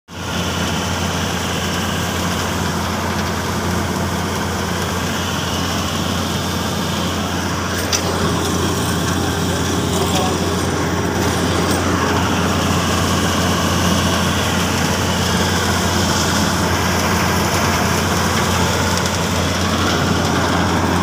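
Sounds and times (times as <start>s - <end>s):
combine harvester running: 0.1s - 21.0s.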